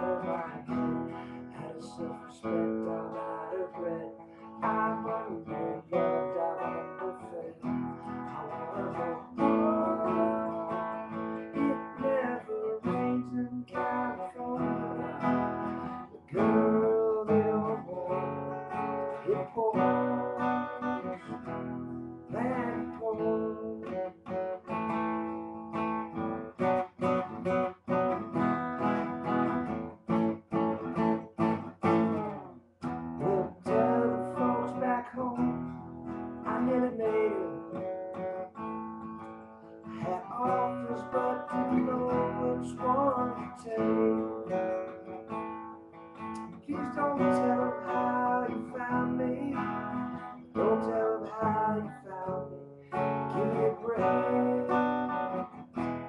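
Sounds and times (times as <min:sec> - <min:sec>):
acoustic guitar strummed: 0:00.0 - 0:56.0.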